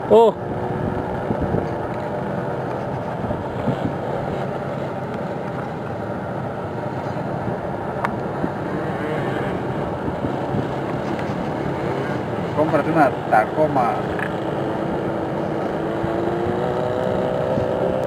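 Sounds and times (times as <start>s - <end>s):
vehicle engine from inside cabin: 0.1s - 18.0s.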